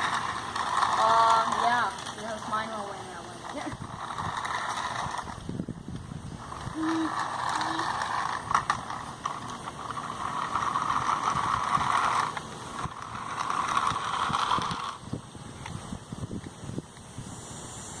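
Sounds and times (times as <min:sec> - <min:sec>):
toy car motors buzzing: 0:00.0 - 0:18.0.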